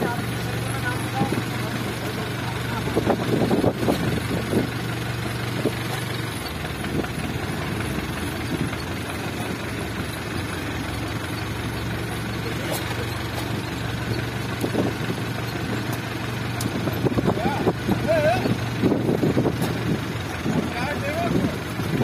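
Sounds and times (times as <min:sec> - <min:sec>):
boat engine humming: 0:00.0 - 0:22.0
wind: 0:00.0 - 0:22.0.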